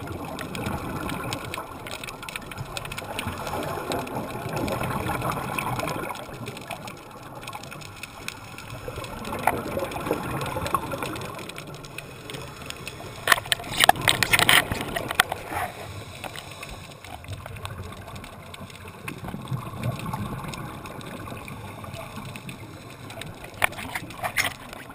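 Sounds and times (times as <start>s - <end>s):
gurgling bubbles: 0.0s - 24.9s
muffled underwater noise: 0.0s - 24.9s.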